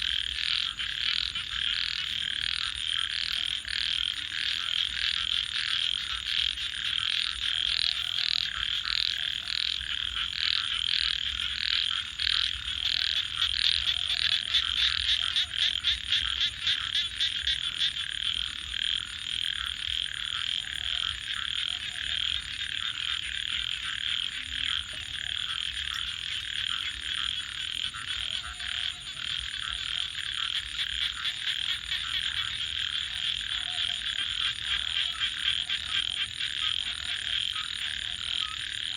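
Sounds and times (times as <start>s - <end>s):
frogs calling: 0.0s - 38.9s
low frog croaks: 0.0s - 38.9s.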